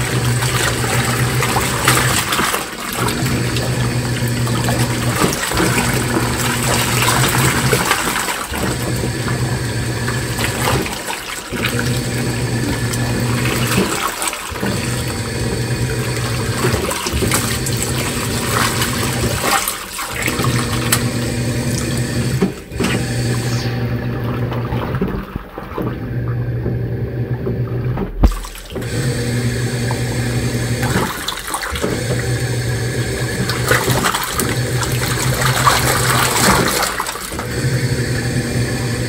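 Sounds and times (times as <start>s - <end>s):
washing machine motor hum: 0.0s - 39.0s
water and clothes sloshing: 0.0s - 39.0s.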